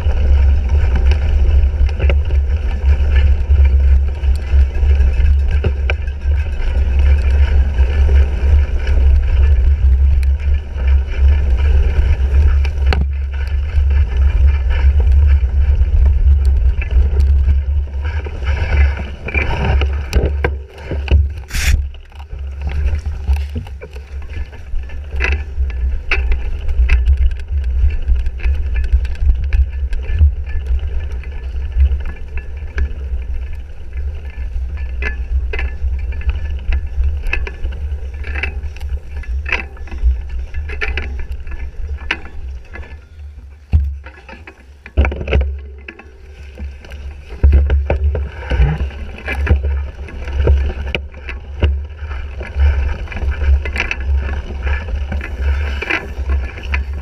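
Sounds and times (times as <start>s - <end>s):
bike rattling over rough ground: 0.0s - 57.0s
wind buffeting microphone: 0.0s - 57.0s.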